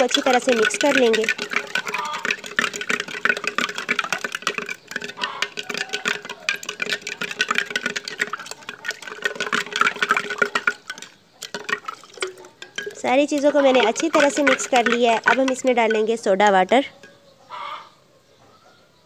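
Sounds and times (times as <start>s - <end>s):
liquid swishing: 0.0s - 17.0s
spoon clinking against a jug: 0.0s - 17.3s.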